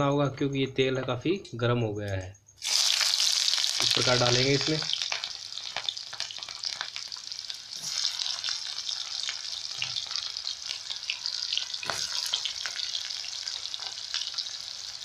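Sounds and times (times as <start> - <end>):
onions sizzling in hot oil: 2.6 - 15.0.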